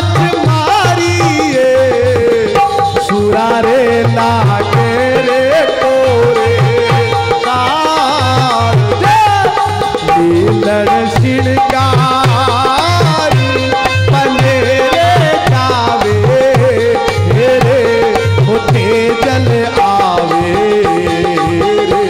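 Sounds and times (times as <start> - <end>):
hand drum beat: 0.0 - 22.0
harmonium: 0.0 - 22.0.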